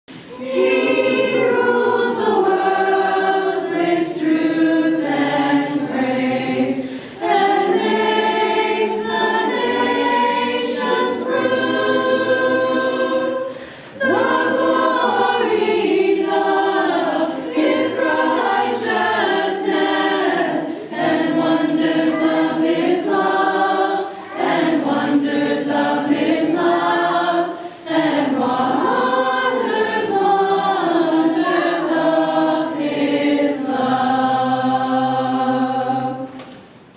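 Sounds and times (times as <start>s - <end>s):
choir singing: 0.2s - 36.6s.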